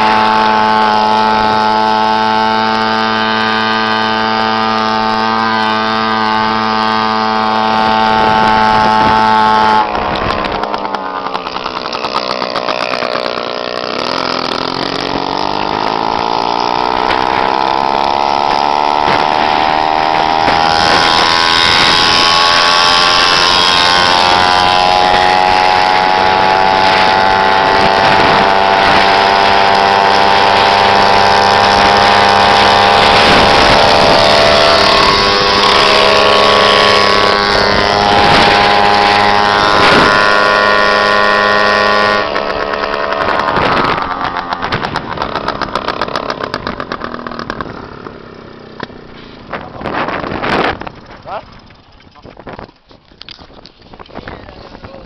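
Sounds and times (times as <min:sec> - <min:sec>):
moped engines buzzing: 0:00.0 - 0:55.0.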